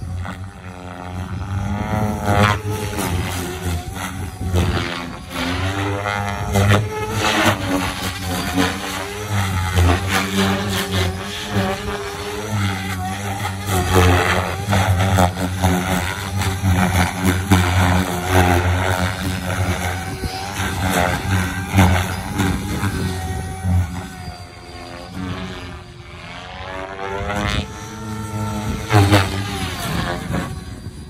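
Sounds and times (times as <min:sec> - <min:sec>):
rc helicopter motor wavering: 0:00.0 - 0:31.0.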